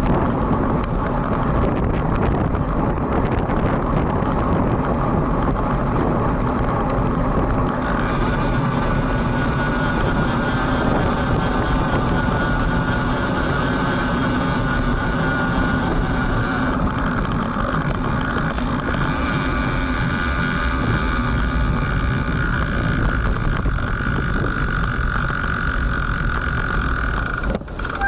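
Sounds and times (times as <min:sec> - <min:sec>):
road and traffic noise: 0:00.0 - 0:28.0
wind rumbling on microphone: 0:00.0 - 0:28.0.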